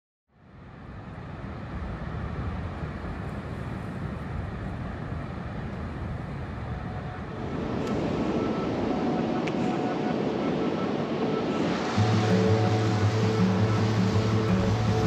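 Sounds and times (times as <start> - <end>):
wind rushing: 1.8 - 15.0.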